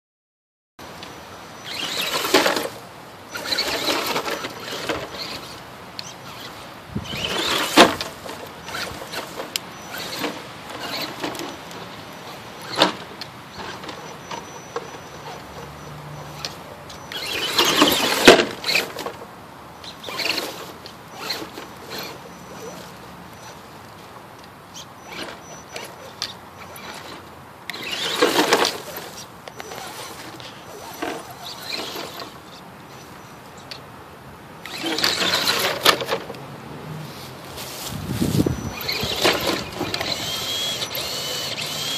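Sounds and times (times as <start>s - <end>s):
toy car motor whirring: 1.6s - 19.2s, 19.8s - 23.7s, 24.7s - 32.6s, 34.6s - 36.2s, 37.7s - 41.9s.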